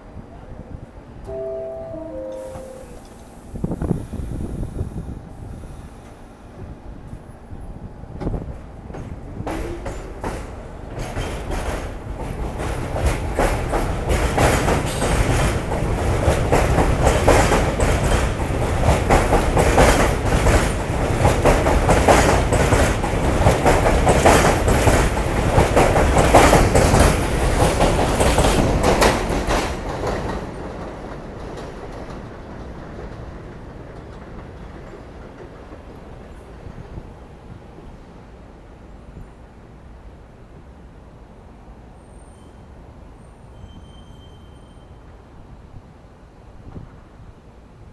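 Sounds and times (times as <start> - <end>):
subway train wheels clacking: 0.0 - 47.9.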